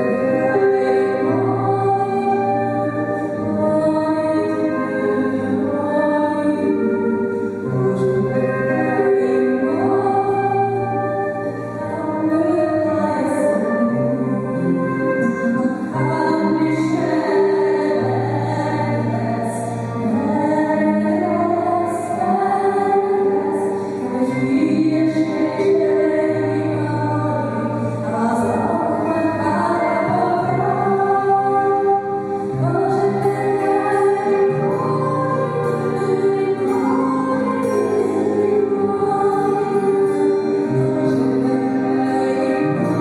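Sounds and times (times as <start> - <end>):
guitar: 0.0 - 43.0
harp: 0.0 - 43.0
violin: 0.0 - 43.0
woman singing: 0.0 - 43.0.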